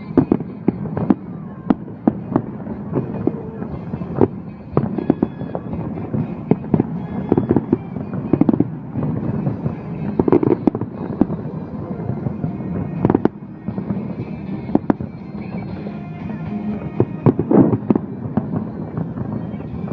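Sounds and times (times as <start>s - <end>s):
fireworks bangs and crackling: 0.0s - 19.9s.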